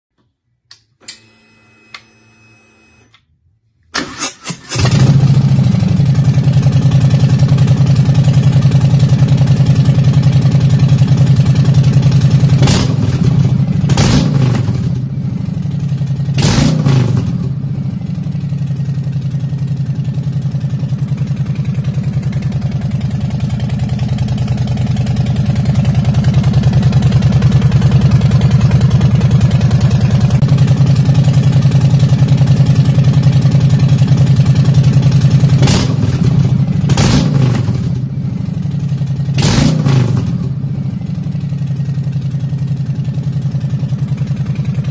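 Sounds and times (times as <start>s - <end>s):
motorcycle engine idling and revving: 4.0s - 44.9s.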